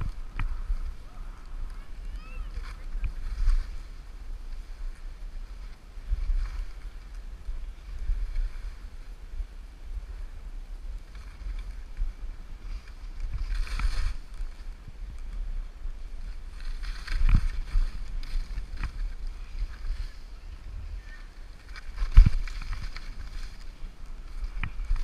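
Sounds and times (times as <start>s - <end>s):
skis swishing through snow: 0.0s - 10.2s, 10.8s - 25.0s
wind buffeting microphone: 0.0s - 25.0s.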